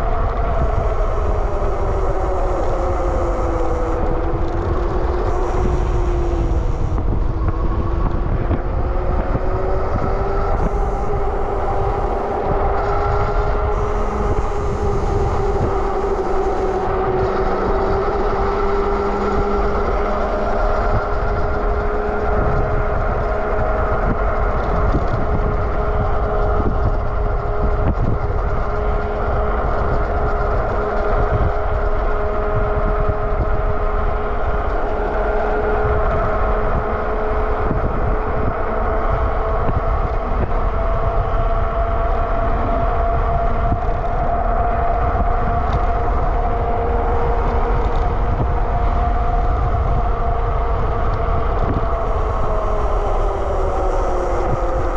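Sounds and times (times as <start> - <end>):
electric motor whining: 0.0 - 54.9
wind rumble on microphone: 0.0 - 54.9.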